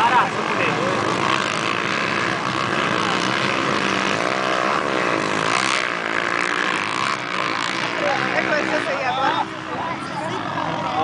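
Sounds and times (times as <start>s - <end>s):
bike engine revving: 0.0s - 11.0s
motocross bikes racing: 0.0s - 11.0s.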